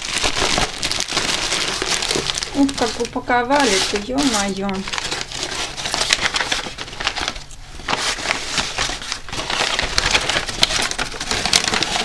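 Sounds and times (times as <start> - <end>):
paper crumpling: 0.0 - 12.0.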